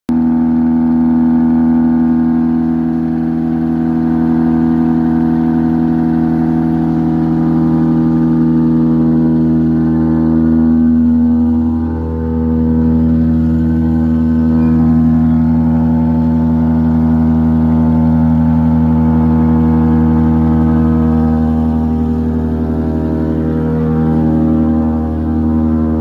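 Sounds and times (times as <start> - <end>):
vacuum truck engine and pump: 0.1 - 26.0.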